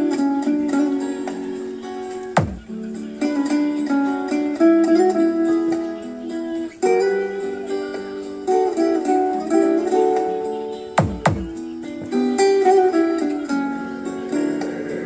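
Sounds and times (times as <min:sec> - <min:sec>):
plucked guitar music on loudspeaker: 0:00.0 - 0:15.0.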